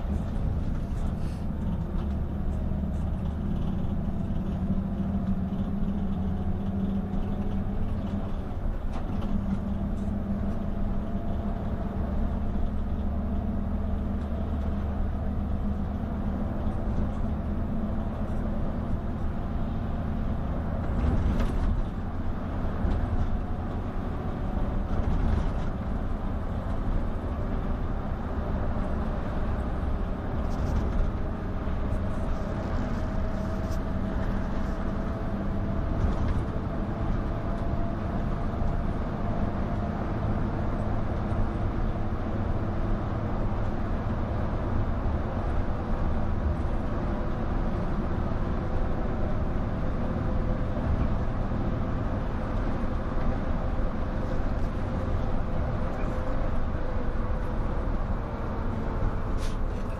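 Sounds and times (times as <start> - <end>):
bus engine and road drone: 0.0 - 59.9.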